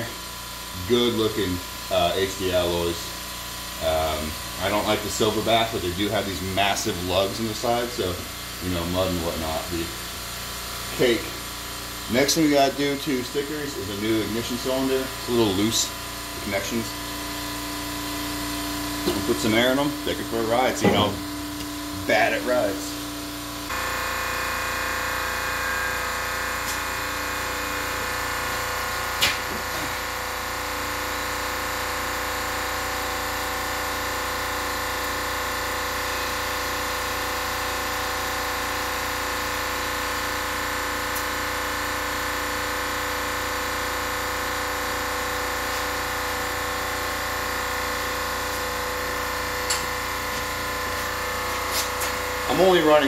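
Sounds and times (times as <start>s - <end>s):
air compressor running: 0.0s - 53.0s.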